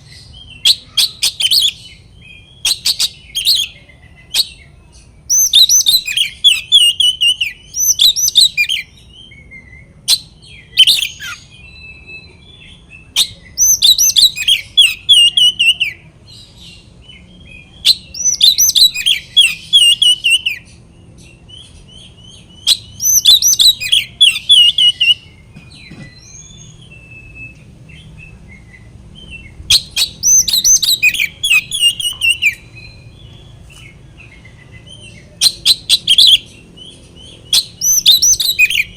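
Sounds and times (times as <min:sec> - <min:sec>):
songbird whistling and chattering: 0:00.0 - 0:38.9.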